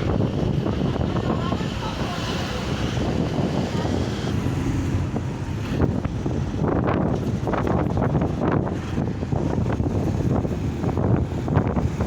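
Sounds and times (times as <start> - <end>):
car engine and tyres rumbling: 0.0 - 12.0
wind rushing over microphone: 0.0 - 12.0.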